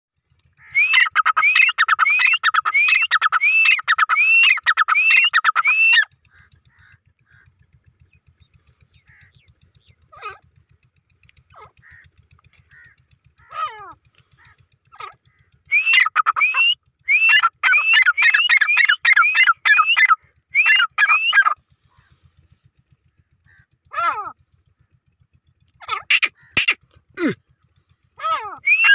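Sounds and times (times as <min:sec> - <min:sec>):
francolin calling: 0:00.5 - 0:22.4, 0:25.7 - 0:27.4, 0:28.2 - 0:28.9.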